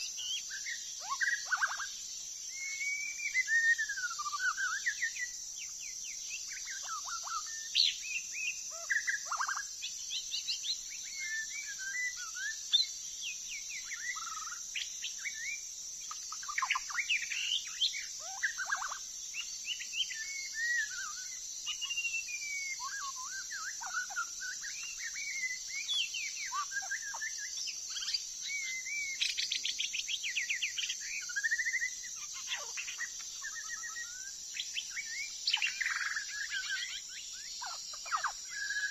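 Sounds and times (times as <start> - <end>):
high insect drone: 0.0 - 38.9
songbird singing: 0.0 - 38.9.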